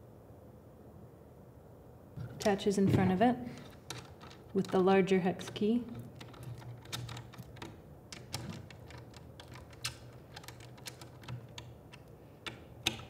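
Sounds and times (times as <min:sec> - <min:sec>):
faint low steady hum: 0:00.0 - 0:13.0.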